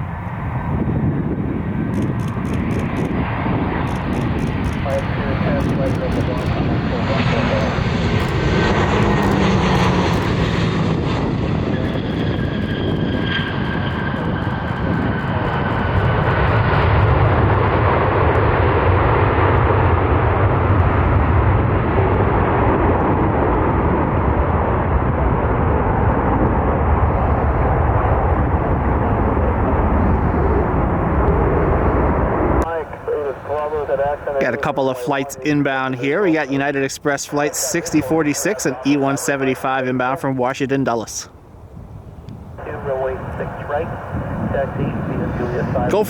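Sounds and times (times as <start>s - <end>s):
high engine whine: 0.0s - 35.6s, 41.3s - 46.0s
jet airliner engines passing: 0.0s - 46.0s.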